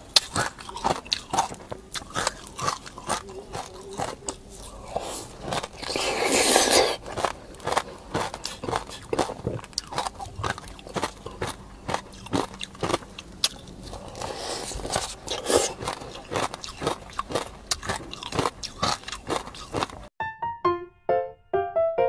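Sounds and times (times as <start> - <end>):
person crunching ice cream cone: 0.0 - 20.1.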